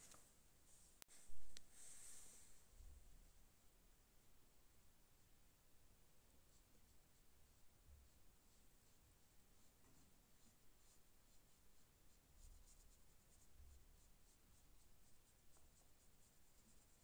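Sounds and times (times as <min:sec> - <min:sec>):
paintbrush strokes on paper: 0:00.0 - 0:17.0.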